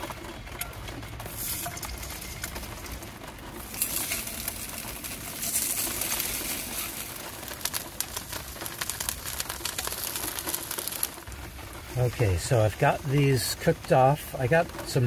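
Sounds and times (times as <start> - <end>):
food sizzling in hot oil: 0.0 - 15.0
oil popping and spattering: 0.0 - 15.0.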